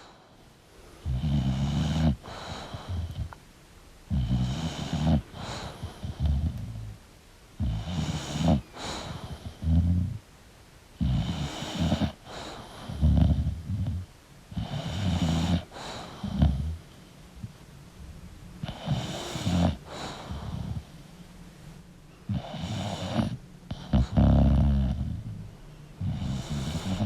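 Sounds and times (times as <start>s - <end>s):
dog snoring: 1.0s - 3.4s, 4.1s - 7.0s, 7.6s - 10.2s, 11.0s - 17.6s, 18.6s - 21.0s, 22.3s - 27.0s.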